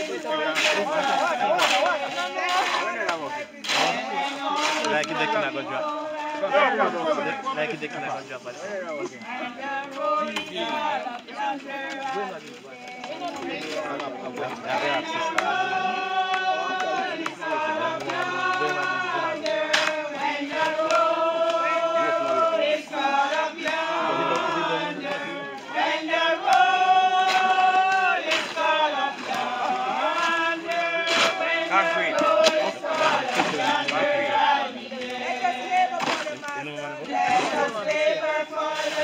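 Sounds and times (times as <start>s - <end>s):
group singing a hymn: 0.0s - 39.0s.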